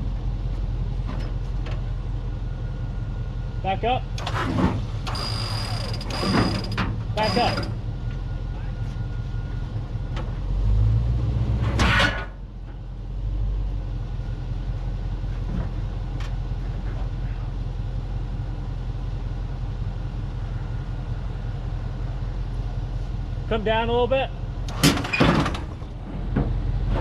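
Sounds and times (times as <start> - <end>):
engine idling: 0.0 - 10.5, 12.3 - 27.0.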